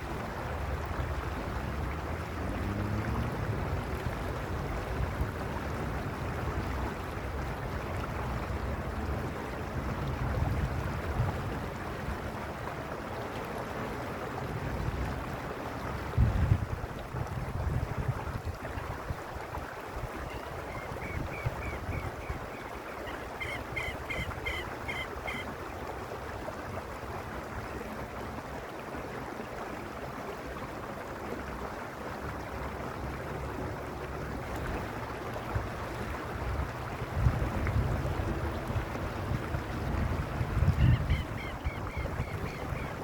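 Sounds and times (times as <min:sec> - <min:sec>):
stream rushing over stones: 0:00.0 - 0:43.0.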